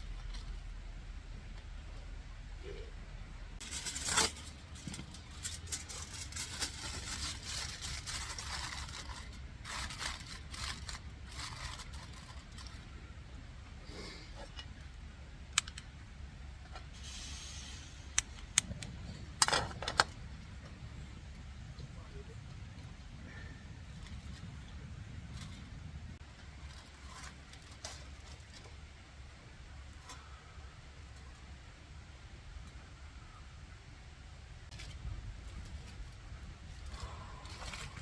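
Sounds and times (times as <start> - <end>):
rustling and scraping: 0.0 - 3.0, 3.6 - 31.6, 34.7 - 38.0
steady low rumble: 0.0 - 27.2, 28.8 - 38.0.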